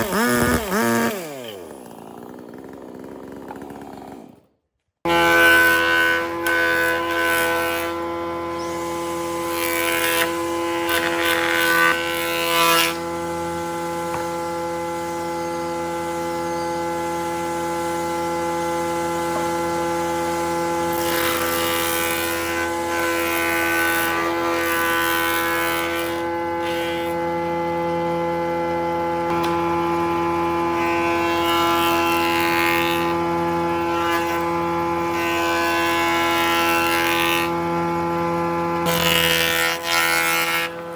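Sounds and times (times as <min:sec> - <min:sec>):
power tool cutting wood: 0:00.0 - 0:40.9
power tool motor running: 0:00.0 - 0:40.9.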